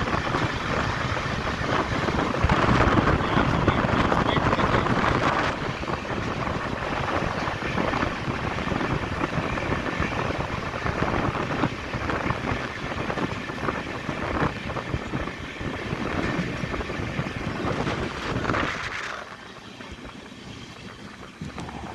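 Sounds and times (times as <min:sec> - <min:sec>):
train rushing rumble: 0:00.0 - 0:21.9
wind buffeting microphone: 0:00.0 - 0:21.9.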